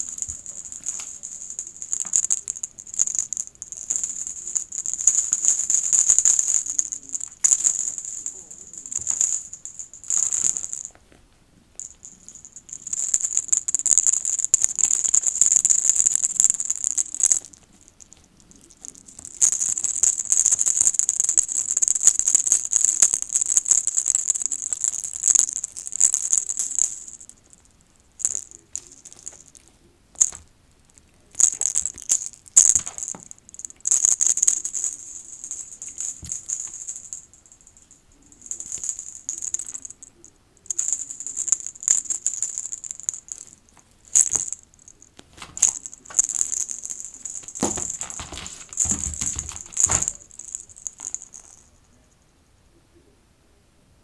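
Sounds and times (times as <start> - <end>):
dry shaken rattling: 0.0 - 11.0, 11.8 - 51.7.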